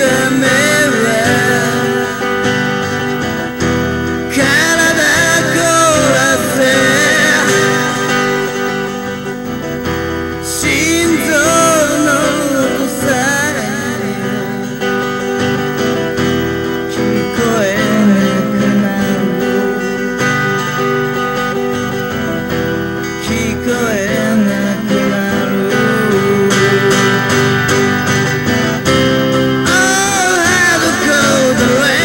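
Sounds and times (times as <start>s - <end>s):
acoustic guitar: 0.0s - 32.0s
person singing: 0.0s - 32.0s.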